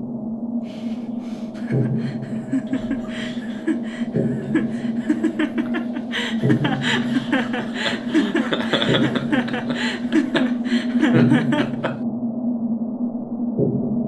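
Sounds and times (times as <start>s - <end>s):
steady low drone: 0.0s - 14.0s
person chuckling: 0.7s - 12.0s.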